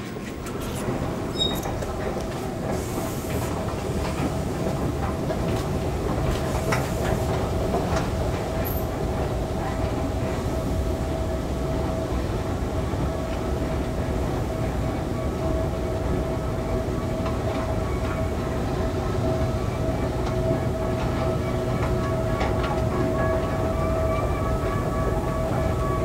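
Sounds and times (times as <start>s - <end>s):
escalator rumbling and whining: 0.0s - 26.0s.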